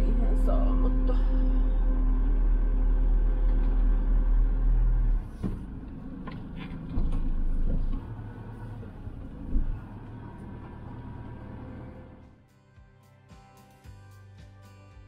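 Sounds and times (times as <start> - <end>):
motorhome engine and road rumble: 0.0 - 12.4.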